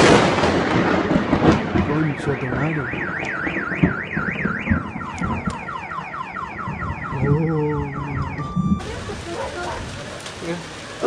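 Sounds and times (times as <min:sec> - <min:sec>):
car alarm siren: 0:01.4 - 0:11.0.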